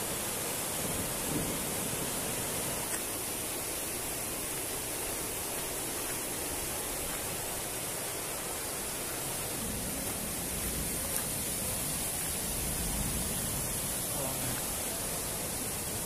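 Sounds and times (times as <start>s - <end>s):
river rushing over boulders: 0.0s - 16.0s.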